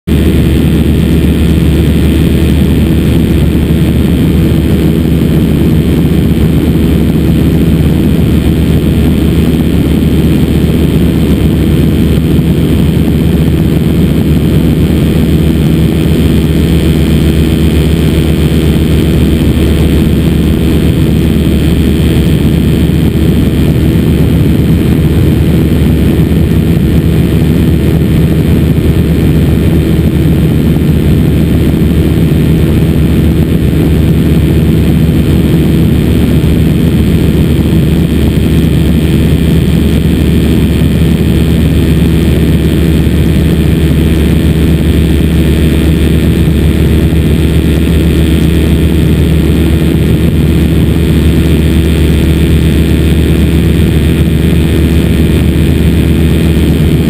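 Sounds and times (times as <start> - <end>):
two-stroke engine and propeller: 0.0 - 57.0.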